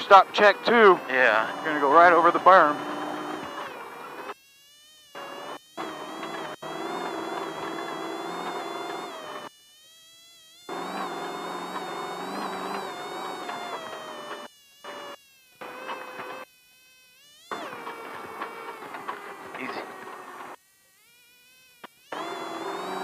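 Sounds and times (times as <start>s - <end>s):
engine buzzing whine: 0.0s - 23.0s.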